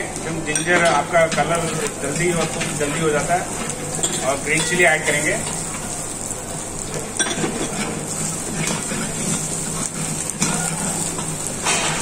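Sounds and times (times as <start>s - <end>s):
vegetables sizzling in hot oil: 0.0s - 12.0s
ladle stirring in a pan: 0.6s - 12.0s.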